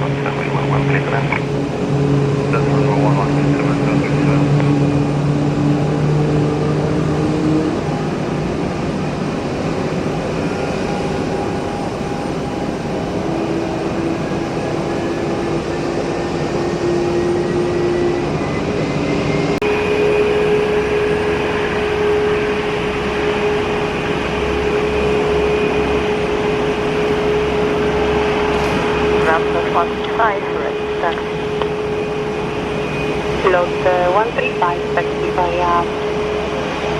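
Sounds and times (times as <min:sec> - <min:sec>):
jet engines whining: 0:00.0 - 0:36.9.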